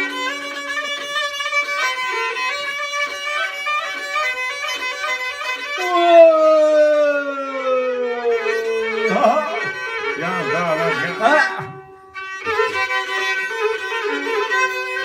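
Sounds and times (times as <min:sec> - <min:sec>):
violin-led folk music: 0:00.0 - 0:15.0.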